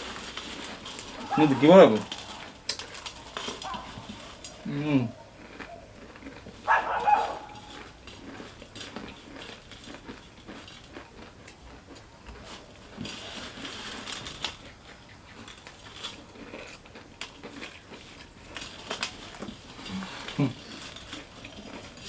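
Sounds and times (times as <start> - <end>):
crunchy snacks being chewed: 0.0 - 22.0.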